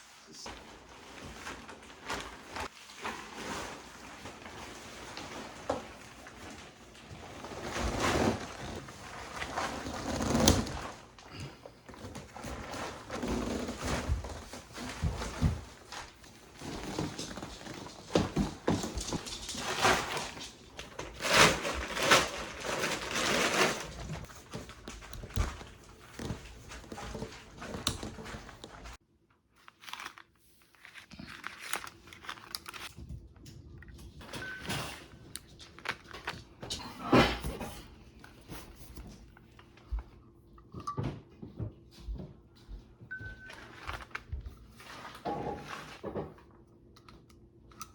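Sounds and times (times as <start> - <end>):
rustling and crinkling: 0.0 - 40.5, 41.4 - 46.6.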